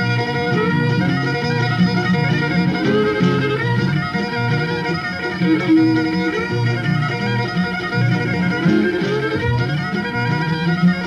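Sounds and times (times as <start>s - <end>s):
folk string music: 0.0s - 11.0s.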